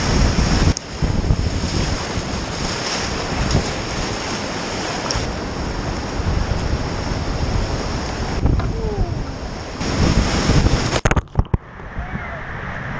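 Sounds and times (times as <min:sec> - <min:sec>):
whitewater rapid rushing: 0:00.0 - 0:11.1
wind buffeting microphone: 0:00.0 - 0:12.9.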